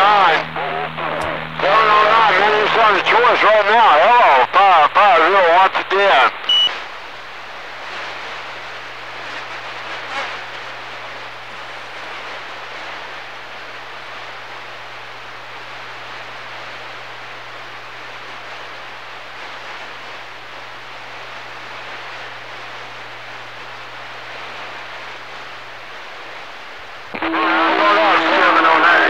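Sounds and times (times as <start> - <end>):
constant low hum: 0.0 - 29.0
radio static hiss: 0.0 - 29.0.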